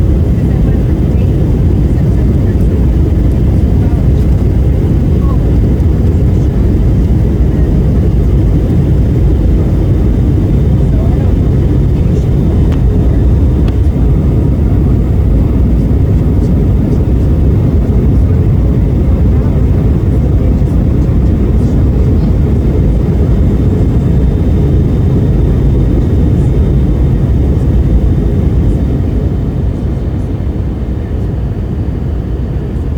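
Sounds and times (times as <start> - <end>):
aircraft drone: 0.0 - 32.9.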